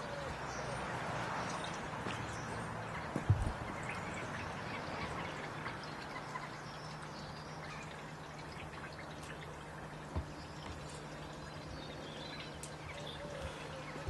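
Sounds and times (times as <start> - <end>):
water trickling and dripping: 0.0 - 14.0.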